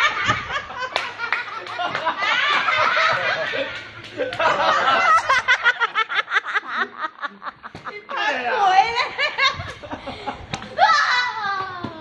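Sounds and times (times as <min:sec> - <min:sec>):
people laughing: 0:00.0 - 0:11.6.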